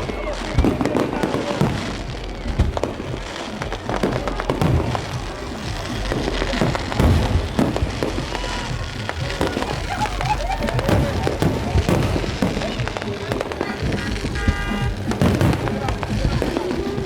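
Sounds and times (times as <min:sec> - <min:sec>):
fireworks bangs and cracks: 0:00.0 - 0:17.0
music: 0:00.0 - 0:17.0.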